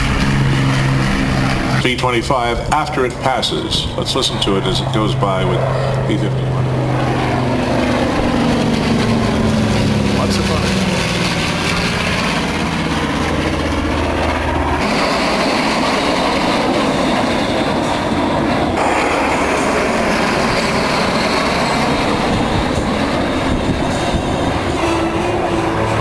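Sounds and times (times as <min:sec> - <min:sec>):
propeller planes flying past: 0:00.0 - 0:26.0.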